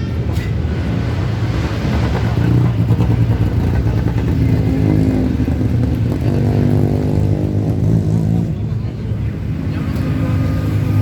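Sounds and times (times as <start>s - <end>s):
race car engine at high revs: 0.8s - 11.0s.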